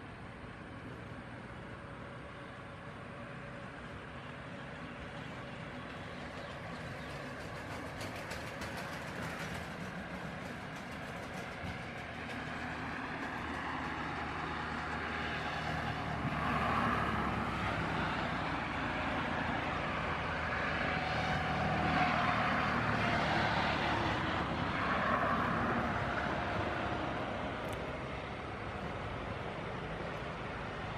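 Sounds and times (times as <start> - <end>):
jet engines running: 4.7 - 30.9.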